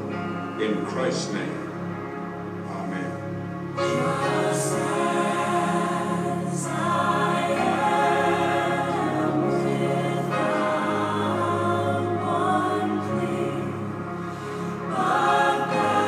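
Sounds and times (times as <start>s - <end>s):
choir singing over music: 0.0s - 16.0s.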